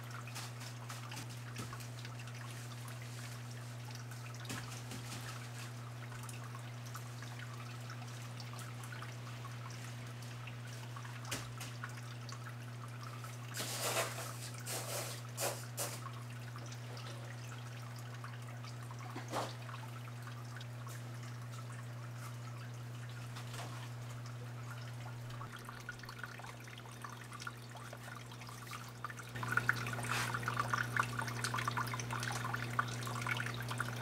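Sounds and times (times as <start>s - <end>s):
water dripping and trickling: 0.0s - 34.0s.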